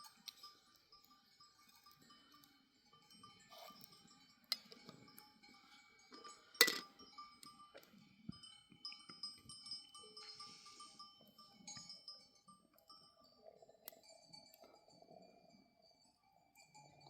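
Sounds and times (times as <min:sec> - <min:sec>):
sheep bells tinkling: 0:00.0 - 0:17.0.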